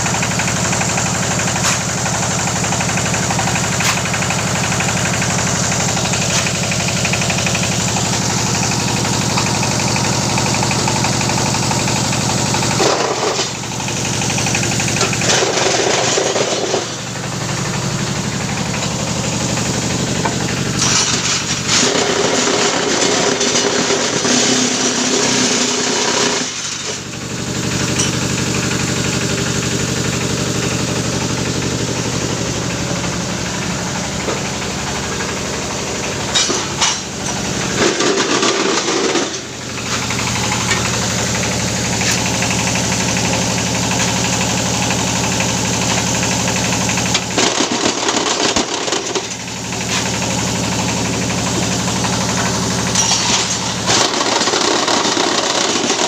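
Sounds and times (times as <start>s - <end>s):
brick-making machine running: 0.0s - 56.0s.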